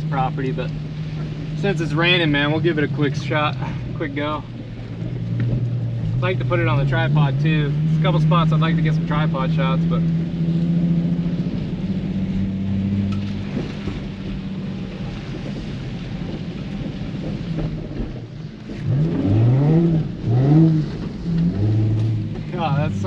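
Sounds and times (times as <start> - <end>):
car engine revving: 0.0 - 23.0
rain: 0.0 - 23.0.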